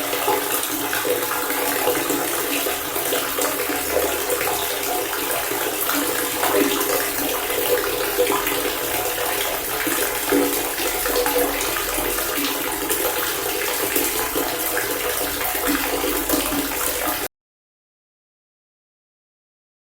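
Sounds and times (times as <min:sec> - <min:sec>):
water pouring from fountain: 0:00.0 - 0:17.3.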